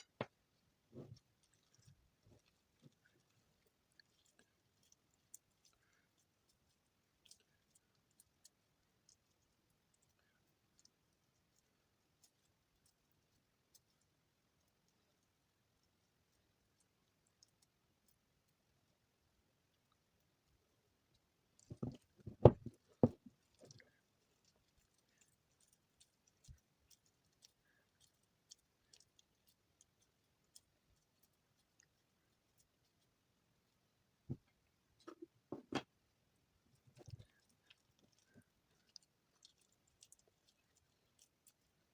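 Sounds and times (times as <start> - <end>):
soap shavings crackling: 0.0 - 35.1, 35.8 - 41.9.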